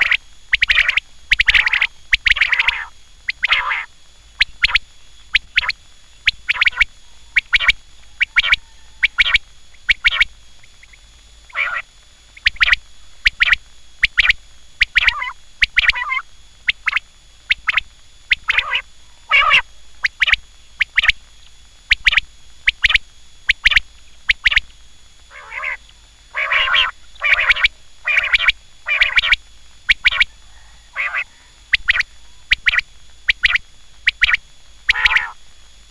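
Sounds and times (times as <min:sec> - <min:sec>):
quail calling: 0:00.0 - 0:21.2, 0:25.3 - 0:35.4.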